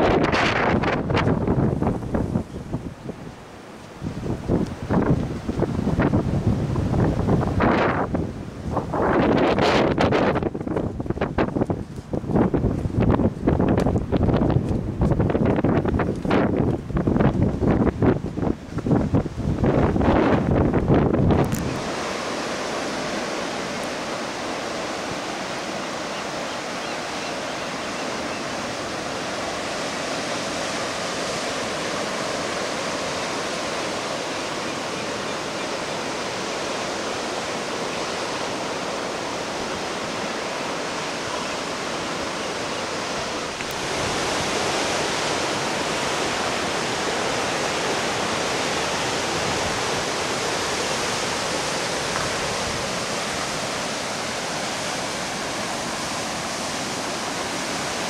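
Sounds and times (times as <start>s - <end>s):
ocean surf breaking on rocks: 0.0s - 58.0s.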